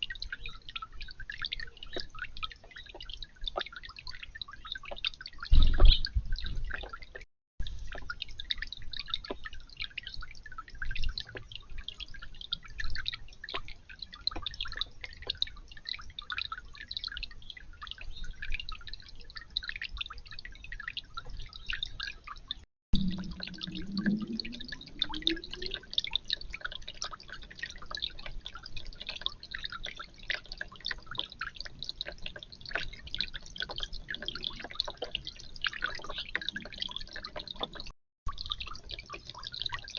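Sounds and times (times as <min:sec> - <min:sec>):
fountain water dripping: 0:00.0 - 0:39.9.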